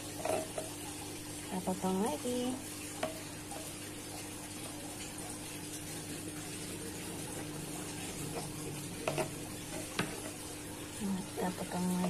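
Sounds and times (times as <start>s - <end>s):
water boiling hiss: 0.0s - 12.0s.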